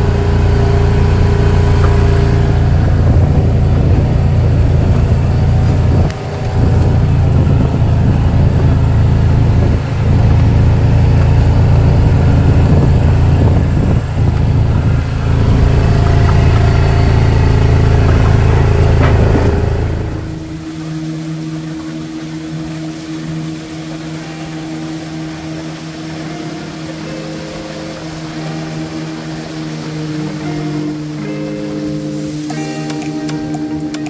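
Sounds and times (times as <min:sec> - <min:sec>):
motor vehicle low rumble: 0:00.0 - 0:34.0.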